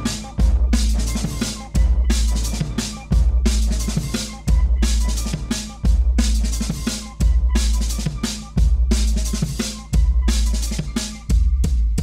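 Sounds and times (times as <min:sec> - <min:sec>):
electronic music with drums: 0:00.0 - 0:12.0.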